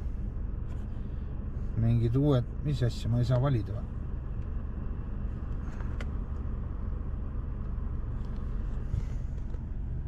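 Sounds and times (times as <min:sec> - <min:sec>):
car engine hum inside cabin: 0:00.0 - 0:10.0.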